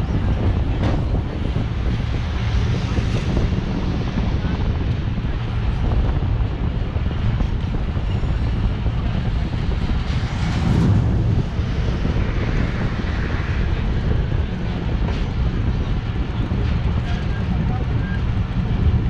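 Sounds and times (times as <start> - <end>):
train running: 0.0 - 19.0.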